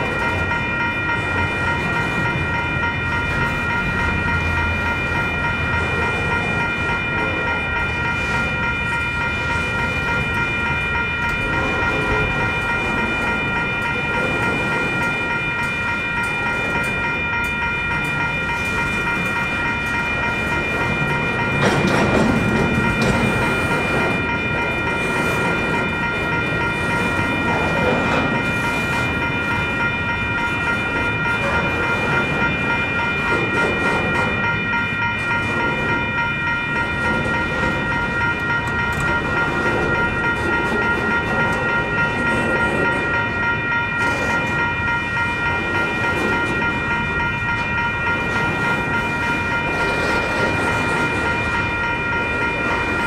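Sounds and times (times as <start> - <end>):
freight train cars rolling: 0.0 - 53.0.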